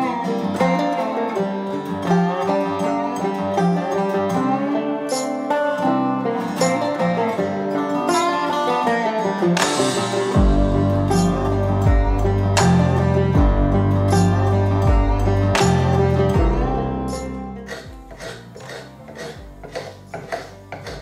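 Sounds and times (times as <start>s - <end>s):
plucked strings bluegrass music: 0.0s - 21.0s.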